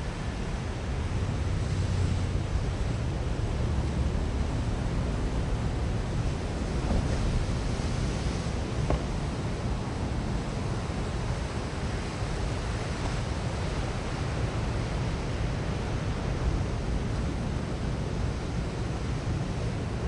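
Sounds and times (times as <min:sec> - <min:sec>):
sea surf: 0:00.0 - 0:20.0.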